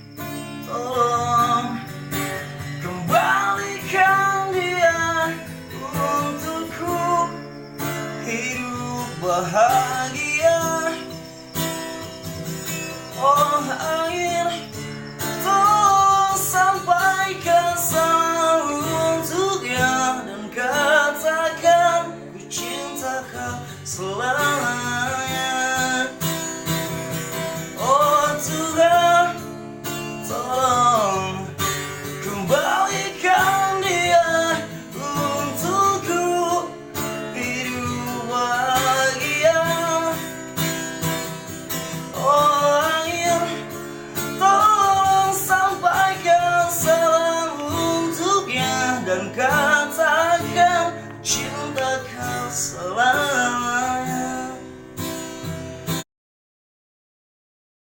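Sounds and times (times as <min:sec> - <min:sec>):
person singing: 0:00.0 - 0:11.4, 0:12.6 - 0:26.4, 0:27.7 - 0:40.8, 0:41.8 - 0:54.8
strummed acoustic guitar: 0:00.0 - 0:56.0.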